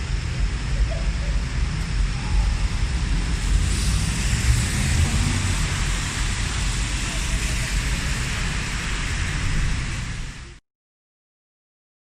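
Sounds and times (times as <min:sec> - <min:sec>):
low rumble of traffic: 0:00.0 - 0:10.6
wet hiss of rain: 0:00.0 - 0:10.6.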